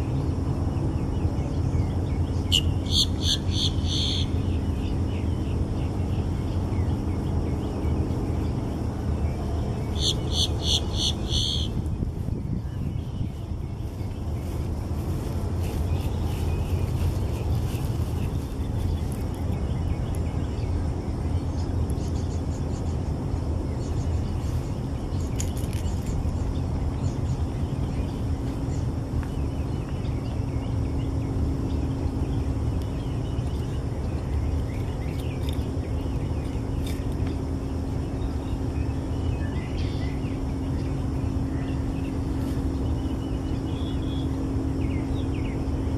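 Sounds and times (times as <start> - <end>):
birds chirping: 0.0 - 45.9
faint steady hum: 0.0 - 45.9
steady low rumble: 0.0 - 45.9.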